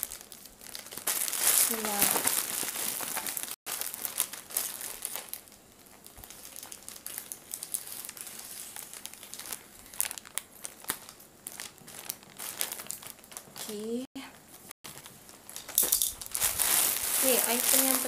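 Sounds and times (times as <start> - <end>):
plastic bag crinkling: 0.0 - 13.9, 14.9 - 18.0.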